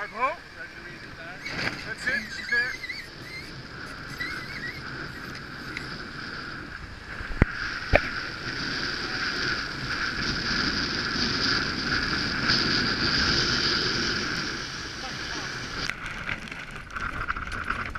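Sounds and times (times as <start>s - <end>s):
wind and water rushing: 0.0s - 17.9s.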